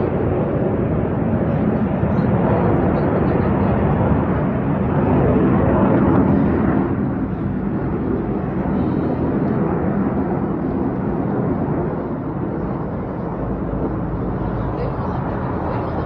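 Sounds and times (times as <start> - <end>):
jet engines roaring overhead: 0.0 - 16.0.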